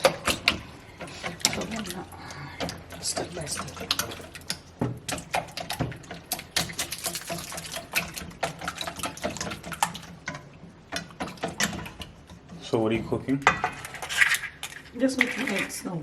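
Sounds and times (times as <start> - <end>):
utensils clicking against dishes: 0.0 - 16.0.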